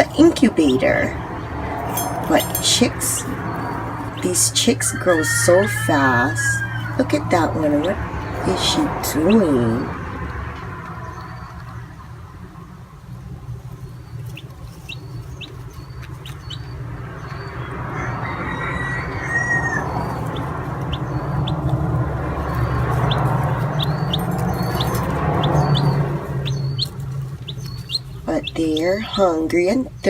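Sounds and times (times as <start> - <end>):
rushing noise: 0.0 - 29.1
baby chicks peeping: 0.0 - 30.0.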